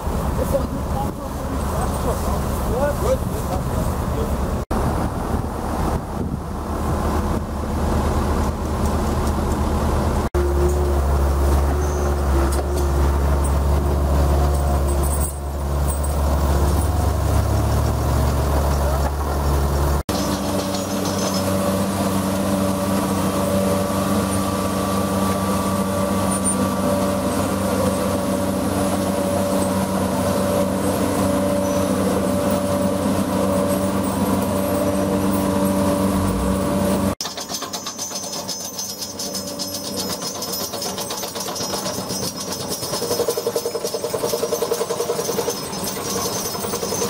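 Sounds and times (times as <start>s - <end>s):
cable plow mechanical drone: 0.0s - 47.0s.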